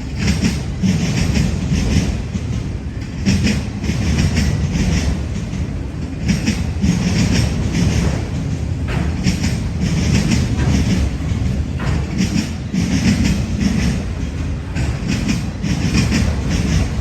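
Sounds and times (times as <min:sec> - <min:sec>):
freight train cars rolling: 0:00.0 - 0:17.0
wheels clicking over rail joints: 0:00.0 - 0:17.0.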